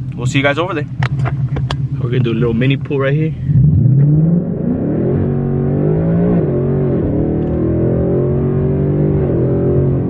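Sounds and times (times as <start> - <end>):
car engine accelerating hard: 0.5 - 10.0.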